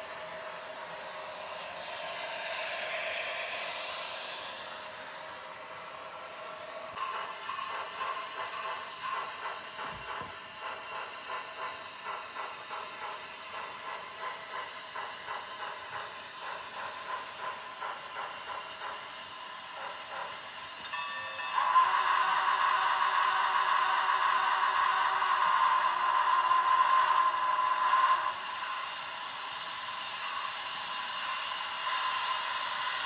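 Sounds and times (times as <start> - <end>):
model train rhythmic beat: 0.0 - 33.0.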